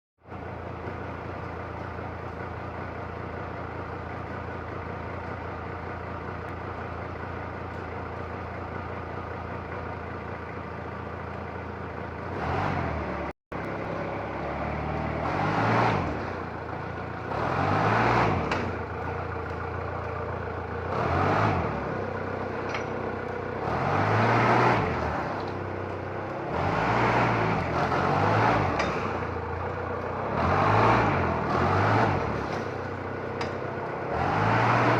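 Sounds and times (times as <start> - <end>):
forklift engine idling and revving: 0.2 - 34.9.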